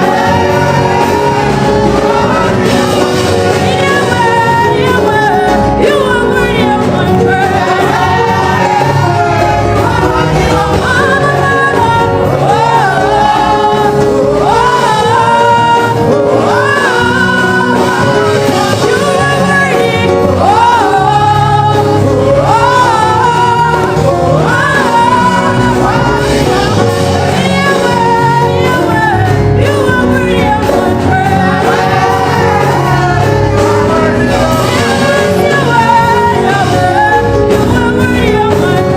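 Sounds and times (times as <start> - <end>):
gospel worship singing: 0.0 - 38.9.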